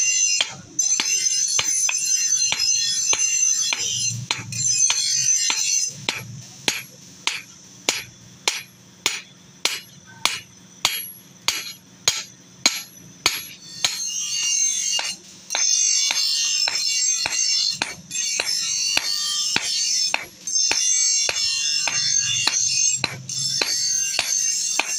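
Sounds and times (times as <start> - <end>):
hammer ringing on steel anvil: 0.0 - 24.9
music: 0.0 - 24.9.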